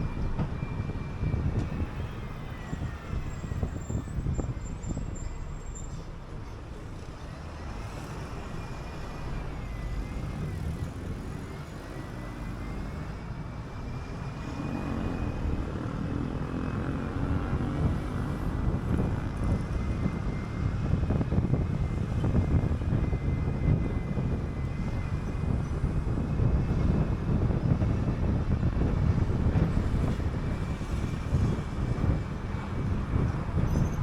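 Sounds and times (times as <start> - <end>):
bus engine drone: 0.0 - 34.0
road rumble: 0.0 - 34.0.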